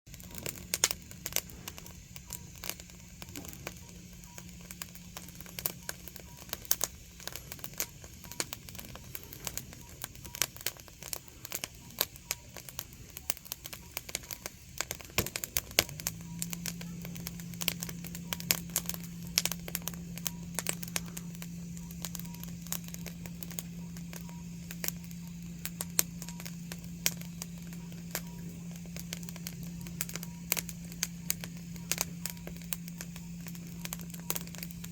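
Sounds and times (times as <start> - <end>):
firewood crackling and popping: 0.1 - 34.9
low steady hum: 0.1 - 34.9.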